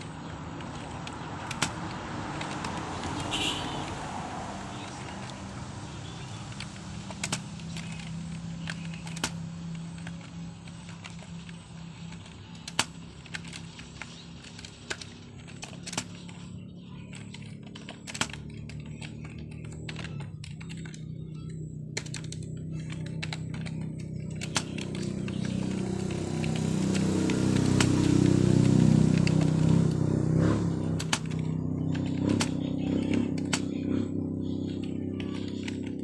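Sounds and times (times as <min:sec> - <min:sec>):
keyboard keys clicking: 0:00.0 - 0:36.0.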